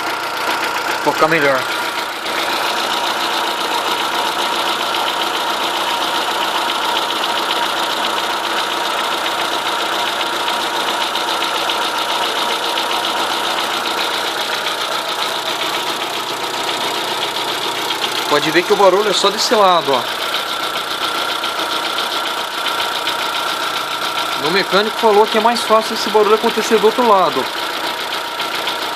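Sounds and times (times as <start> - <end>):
abnormal engine noise: 0.0 - 28.9
car engine idling: 0.0 - 28.9.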